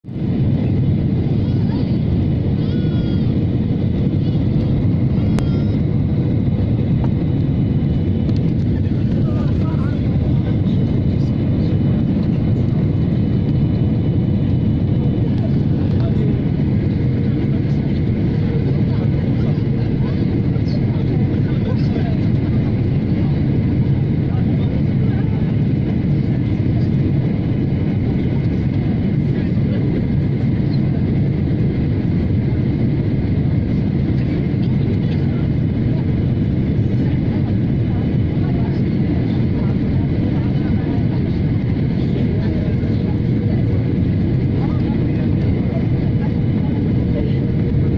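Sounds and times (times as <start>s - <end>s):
jet engines rumbling: 0.0s - 47.9s
faint engine whine: 0.1s - 47.9s.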